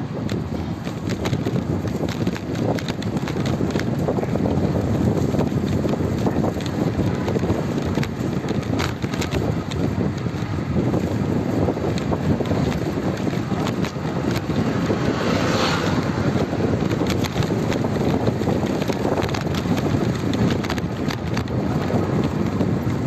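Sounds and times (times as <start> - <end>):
wind buffeting microphone: 0.0 - 23.0
small scattered clicks: 0.2 - 4.3, 5.3 - 14.6, 16.8 - 23.0.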